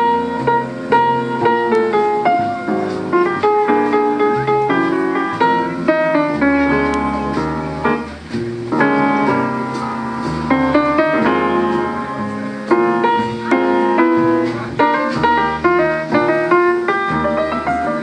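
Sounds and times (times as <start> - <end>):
piano-led music with bass: 0.0 - 18.0.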